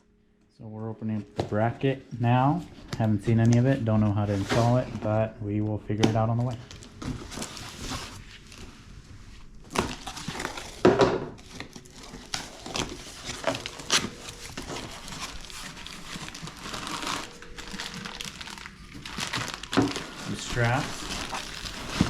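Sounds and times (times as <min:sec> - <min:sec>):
packaging crinkling and rustling: 0:01.4 - 0:22.0.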